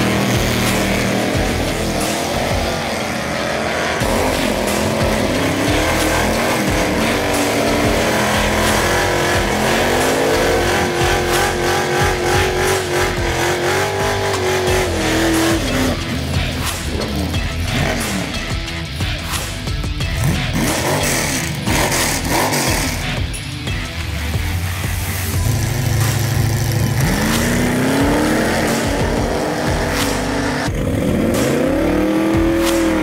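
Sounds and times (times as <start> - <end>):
drag car engines revving: 0.0 - 33.0.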